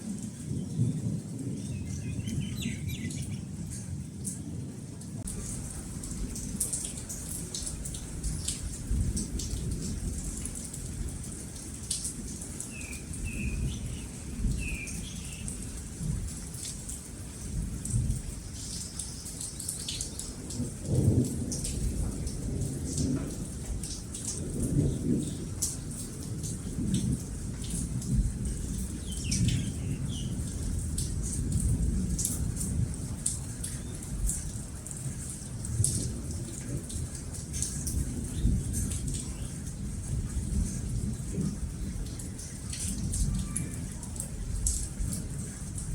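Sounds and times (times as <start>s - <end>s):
steady rain: 0.0s - 45.9s
rolling thunder: 0.1s - 16.7s, 19.9s - 35.0s, 35.6s - 45.9s.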